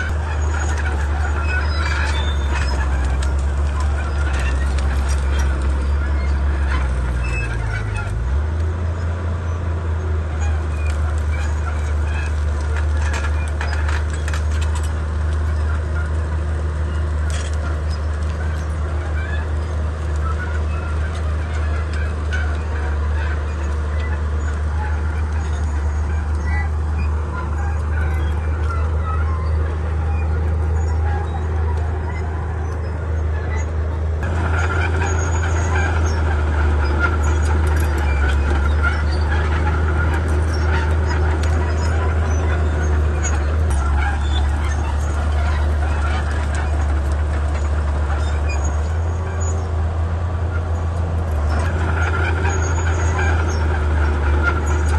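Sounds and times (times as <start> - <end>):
clanking of tracks and blade: 0.0 - 8.3, 10.4 - 49.8, 50.5 - 54.9
bulldozer diesel engine rumbling: 0.0 - 54.9
faint clicks and squeaks: 0.0 - 54.9.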